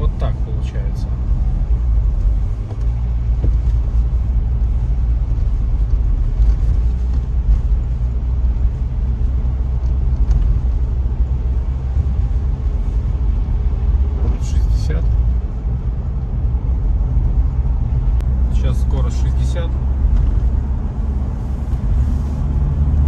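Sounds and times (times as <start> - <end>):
car cabin engine and road rumble: 0.0 - 23.0.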